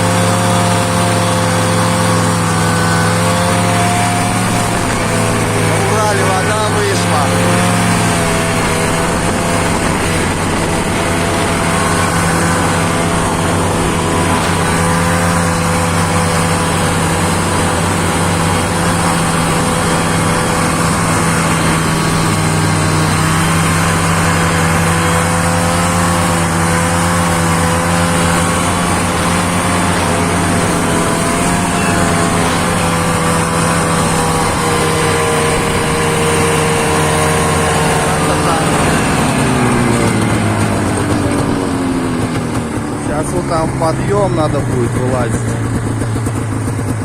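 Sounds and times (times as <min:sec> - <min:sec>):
snowmobile engine running: 0:00.0 - 0:47.0.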